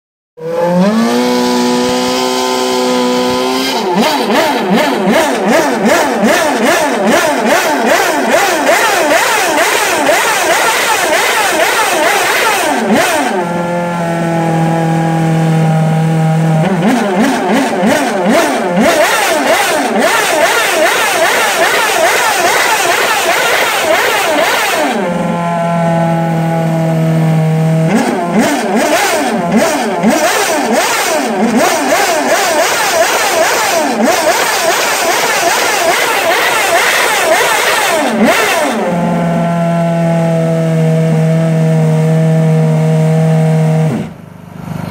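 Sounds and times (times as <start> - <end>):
racing car engine revving: 0.4 - 44.9.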